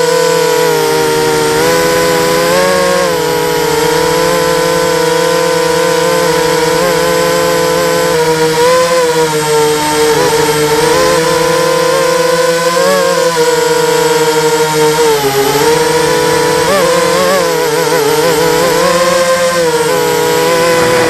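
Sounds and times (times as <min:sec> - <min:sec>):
quadcopter motors buzzing: 0:00.0 - 0:21.0.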